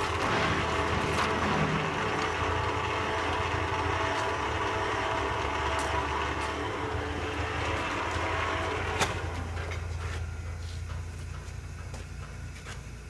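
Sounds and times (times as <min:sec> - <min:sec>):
lathe humming: 0:00.0 - 0:12.6.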